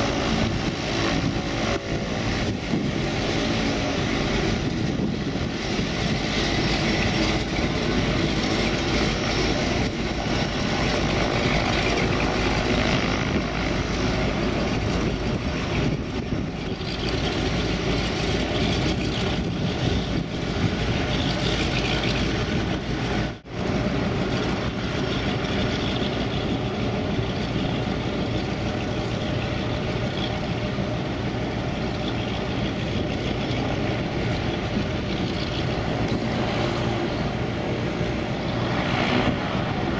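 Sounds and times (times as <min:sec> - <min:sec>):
turboprop propeller drone: 0:00.0 - 0:39.9.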